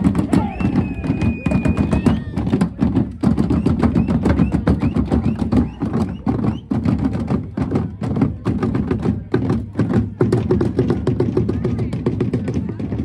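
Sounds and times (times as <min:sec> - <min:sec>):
drums beating fast: 0:00.0 - 0:13.0.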